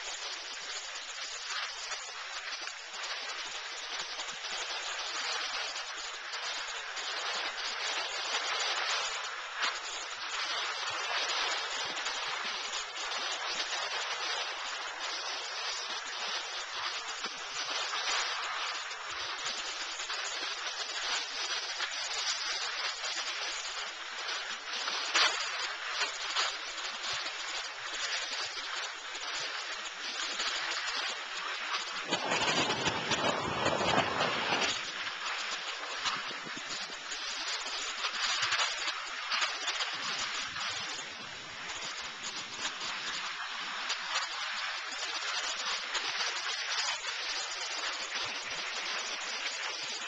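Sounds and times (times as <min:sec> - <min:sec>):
skis sliding on snow: 0:00.0 - 0:50.0
wind on microphone: 0:00.0 - 0:50.0.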